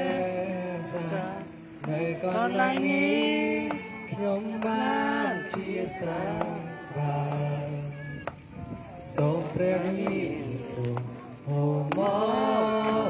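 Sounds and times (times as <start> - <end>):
man singing through loudspeaker: 0.0 - 13.0.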